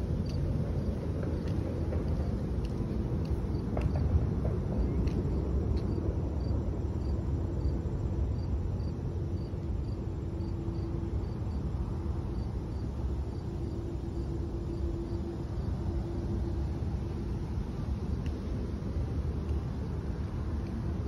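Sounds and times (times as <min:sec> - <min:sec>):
low steady rumble: 0:00.0 - 0:21.0
cricket chirping: 0:00.1 - 0:02.4, 0:03.2 - 0:04.1, 0:04.8 - 0:18.5.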